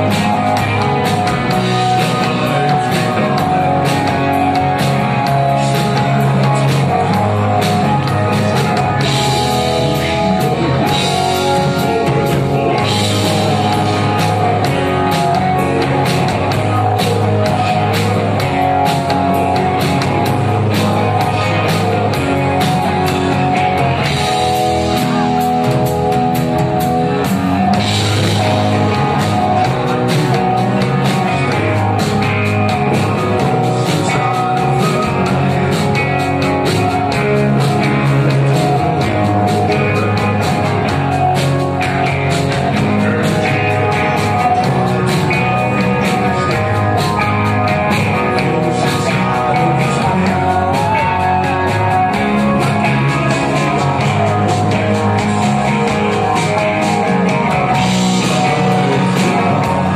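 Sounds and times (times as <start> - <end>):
man singing into a microphone: 0.0 - 24.0, 27.8 - 41.4, 42.0 - 59.9
bass guitar: 0.0 - 59.9
distorted electric guitars: 0.0 - 59.9
drum kit: 0.0 - 59.9.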